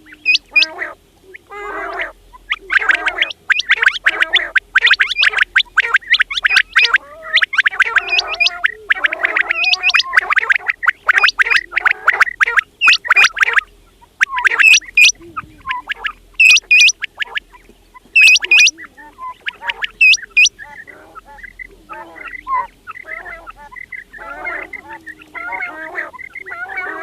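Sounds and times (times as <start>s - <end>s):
quails calling: 0.0s - 27.0s.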